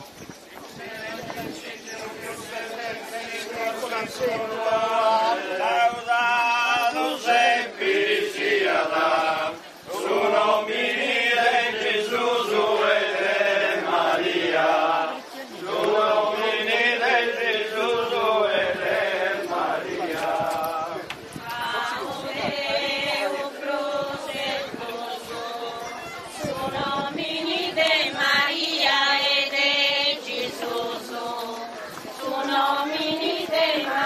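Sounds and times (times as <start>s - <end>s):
group chanting a hymn: 0.7s - 34.0s.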